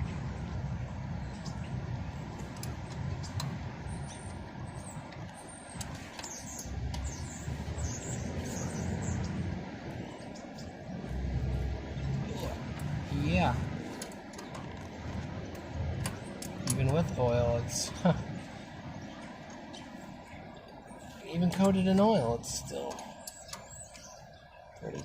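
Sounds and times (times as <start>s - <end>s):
low outdoor rumble: 0.0s - 25.0s
small birds chirping: 0.0s - 25.0s.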